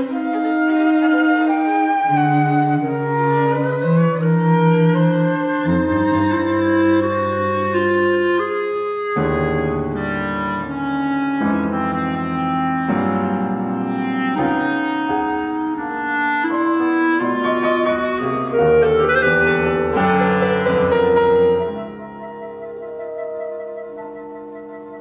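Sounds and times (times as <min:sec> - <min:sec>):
chamber ensemble playing: 0:00.0 - 0:25.0
clarinet line: 0:00.0 - 0:25.0.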